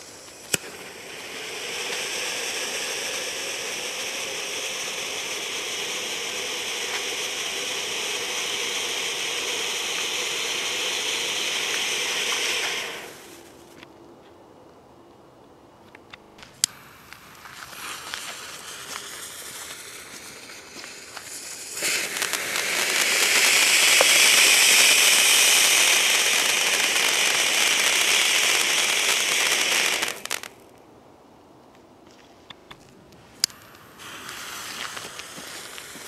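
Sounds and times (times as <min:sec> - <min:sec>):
firework hissing and crackling: 0:00.0 - 0:13.8, 0:16.4 - 0:30.8, 0:33.2 - 0:36.0
spraying hiss of sparks: 0:00.0 - 0:13.8, 0:16.4 - 0:30.6, 0:33.4 - 0:36.0.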